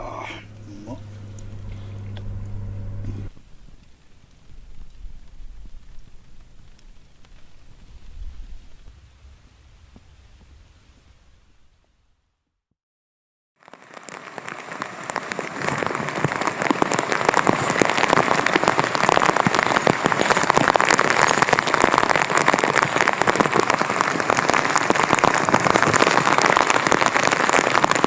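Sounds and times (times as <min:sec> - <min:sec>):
heavy rain pattering: 0:00.0 - 0:10.4, 0:13.6 - 0:28.0.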